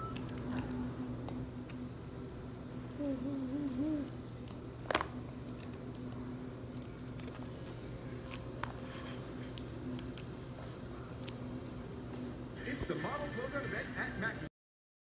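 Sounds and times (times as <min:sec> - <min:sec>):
faint low hum: 0:00.0 - 0:14.5.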